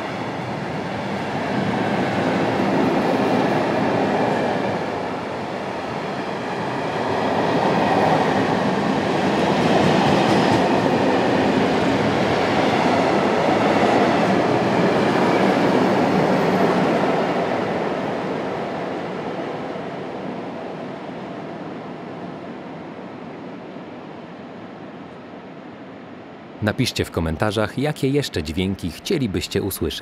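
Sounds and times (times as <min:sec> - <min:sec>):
freight train rolling on rails: 0:00.0 - 0:27.2.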